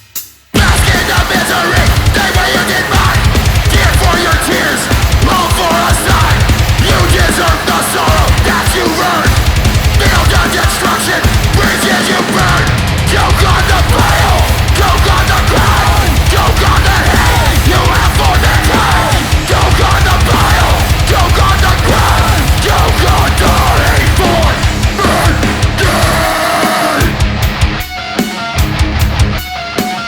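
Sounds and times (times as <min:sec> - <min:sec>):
fast drumming: 0:00.2 - 0:30.0
bass guitar: 0:00.6 - 0:30.0
distorted electric guitars: 0:00.6 - 0:30.0.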